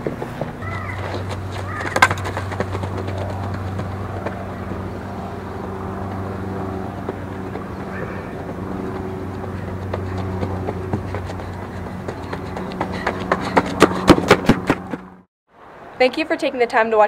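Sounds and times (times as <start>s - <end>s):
steady low hum: 0.0s - 15.3s
outdoor background noise: 0.0s - 17.0s.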